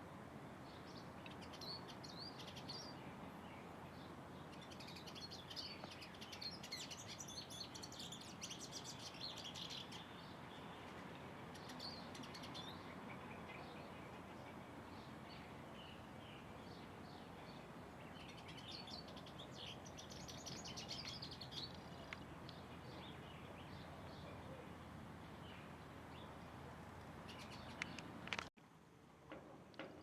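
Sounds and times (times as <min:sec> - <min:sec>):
faint background hiss: 0:00.0 - 0:30.0
small birds chirping and twittering: 0:00.6 - 0:28.5.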